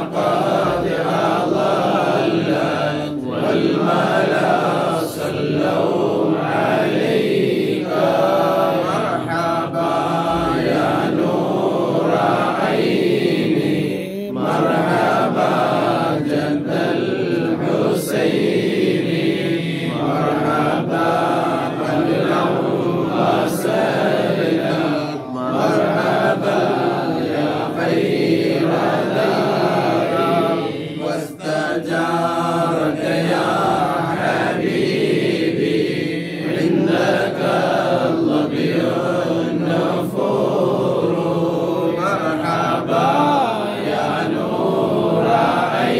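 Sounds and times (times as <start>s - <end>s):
men chanting devotional verses: 0.0s - 45.9s.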